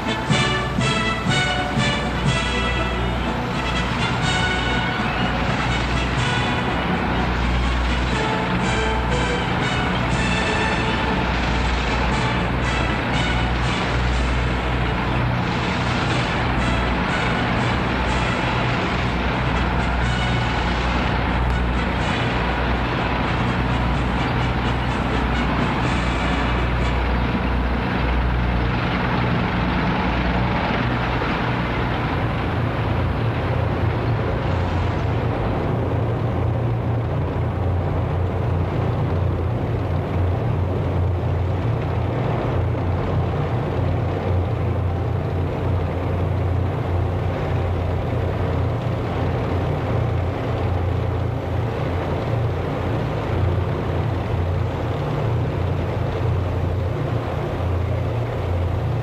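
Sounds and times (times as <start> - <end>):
military vehicles driving past: 0.0 - 59.0.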